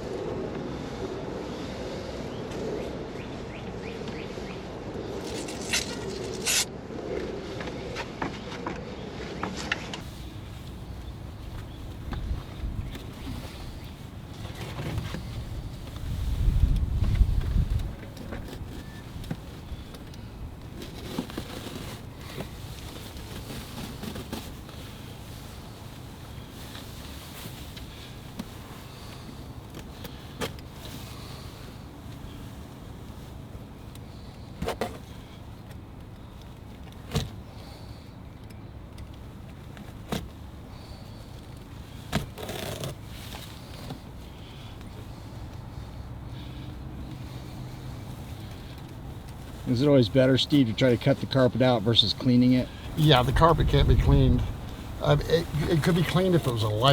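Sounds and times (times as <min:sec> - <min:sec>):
faint rustling: 0:10.0 - 0:56.9.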